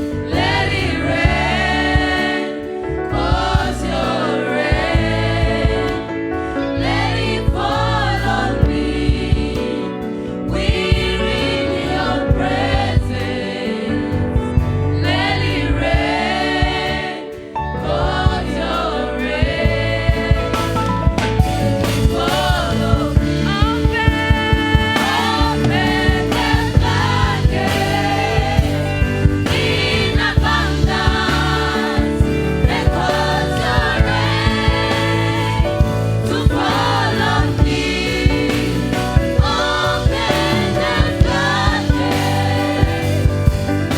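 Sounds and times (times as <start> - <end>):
steady drum beat: 0.0 - 6.2, 6.8 - 9.8, 10.5 - 43.9
gospel singers with band: 0.0 - 43.9.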